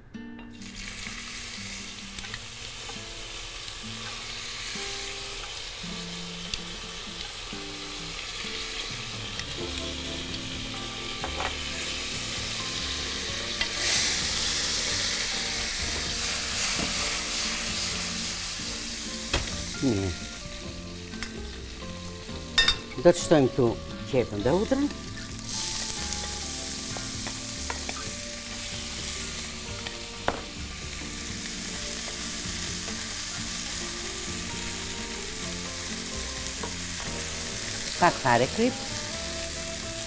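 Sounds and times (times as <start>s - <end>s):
oil sizzling in a frying pan: 0.6s - 40.0s.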